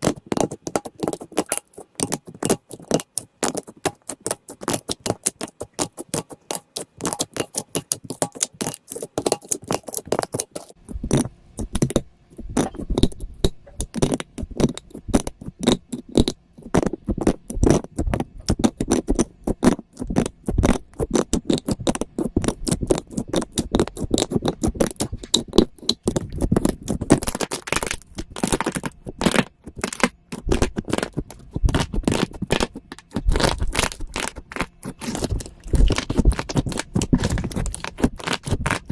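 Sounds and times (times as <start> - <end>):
fuller low squishing sounds: 0.0 - 38.9
slime crackling and clicking: 0.0 - 38.9.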